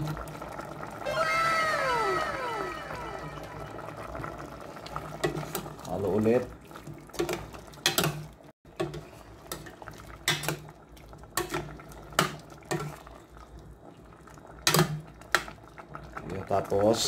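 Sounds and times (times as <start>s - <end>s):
sauce bubbling: 0.0s - 17.0s.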